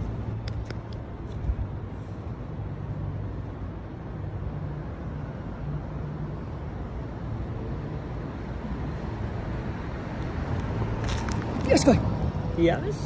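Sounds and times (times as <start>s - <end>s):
distant traffic: 0.0s - 13.0s.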